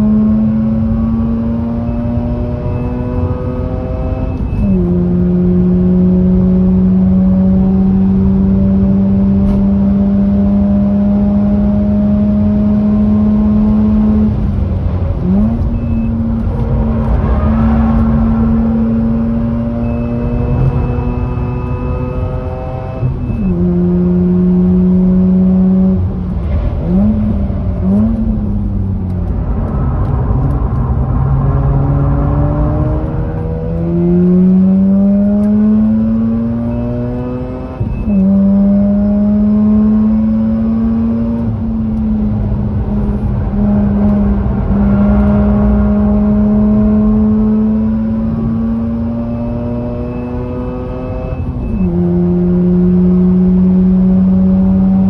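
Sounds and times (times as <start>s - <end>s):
rotary engine revving: 0.0s - 41.6s, 42.5s - 55.0s.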